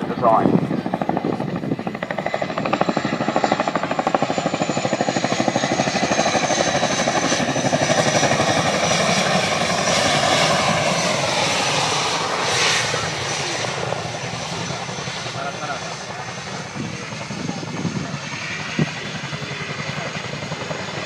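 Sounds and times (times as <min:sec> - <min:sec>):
helicopter rotor chopping: 0:00.0 - 0:21.0
turbine whine: 0:00.0 - 0:21.0.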